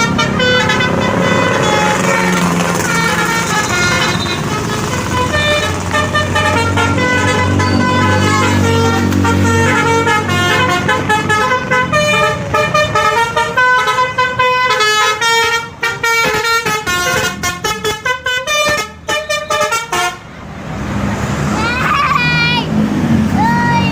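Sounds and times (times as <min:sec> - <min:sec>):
musical bus horn tune: 0:00.0 - 0:20.3.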